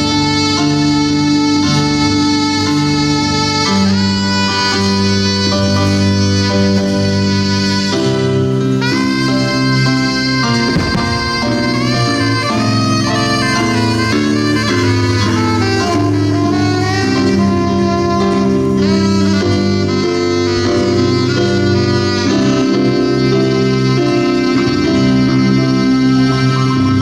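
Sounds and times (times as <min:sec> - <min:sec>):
jazz band playing: 0:00.0 - 0:27.0.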